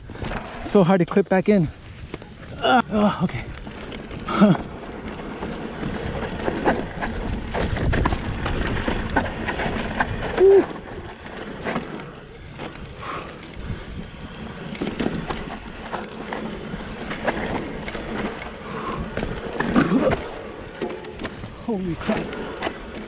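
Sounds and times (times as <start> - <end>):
bike clattering over rocks: 0.0 - 23.0.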